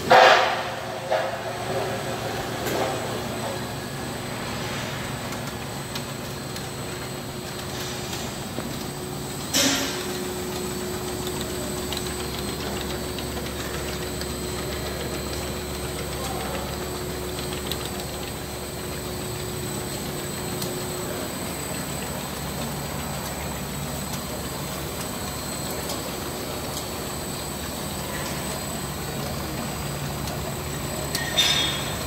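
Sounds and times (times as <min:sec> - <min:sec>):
machine clatter: 0:00.0 - 0:32.0
machine humming: 0:00.0 - 0:32.0
faint machine clicks: 0:05.3 - 0:32.0.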